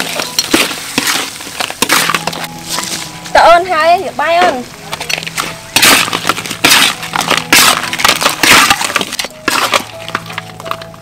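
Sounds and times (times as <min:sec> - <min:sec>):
metal spatula scraping a wok: 0:00.0 - 0:03.1, 0:05.0 - 0:10.8
food sizzling in a wok: 0:00.0 - 0:10.2.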